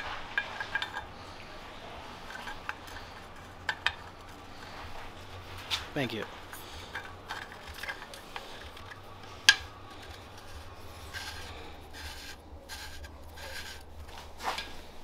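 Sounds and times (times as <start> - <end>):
scraping and rubbing strokes: 0.0 - 15.0.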